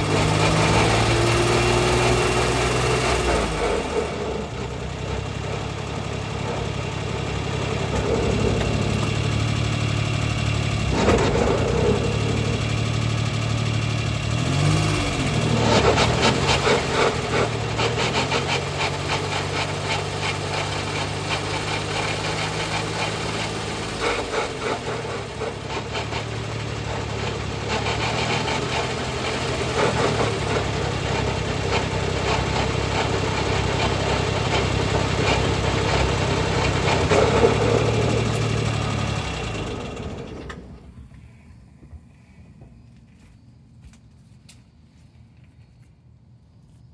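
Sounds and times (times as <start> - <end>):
car engine running: 0.0 - 41.2
mechanical rattle and whine: 0.0 - 45.9.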